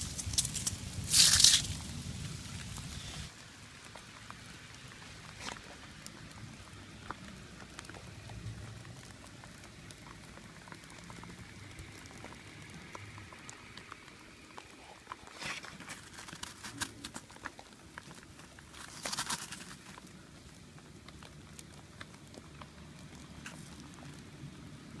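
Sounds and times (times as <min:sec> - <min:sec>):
hailstones pattering: 0:00.0 - 0:25.0
hand scooping hailstones: 0:00.0 - 0:25.0.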